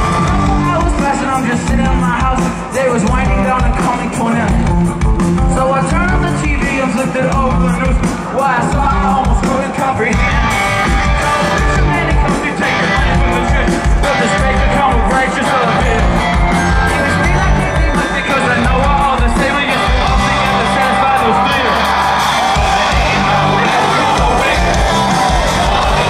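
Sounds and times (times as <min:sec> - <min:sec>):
bass guitar: 0:00.0 - 0:26.0
drum beat: 0:00.0 - 0:26.0
live rock band playing: 0:00.0 - 0:26.0
man singing into a microphone: 0:00.4 - 0:04.7, 0:05.4 - 0:10.4, 0:11.5 - 0:21.8, 0:22.7 - 0:26.0.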